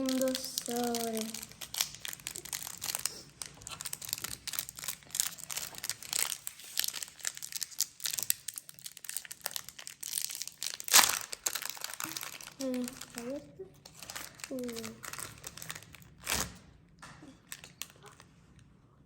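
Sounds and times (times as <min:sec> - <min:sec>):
foil wrapper crinkling and tearing: 0:00.0 - 0:16.7, 0:17.4 - 0:18.6.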